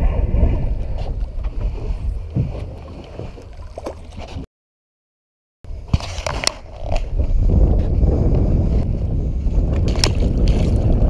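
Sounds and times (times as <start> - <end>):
wind buffeting microphone: 0.0 - 4.4, 5.7 - 11.0.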